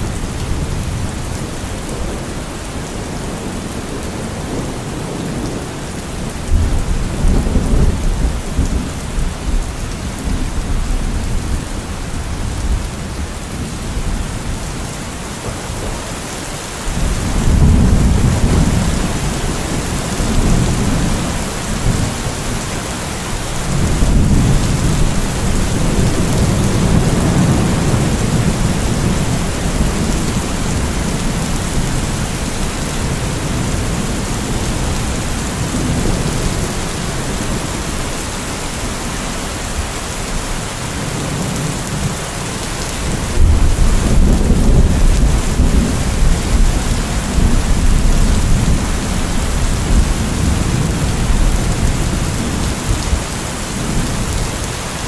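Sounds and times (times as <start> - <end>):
thunder rumbling: 0.0 - 38.9, 42.8 - 54.7
steady rain falling: 0.0 - 55.0.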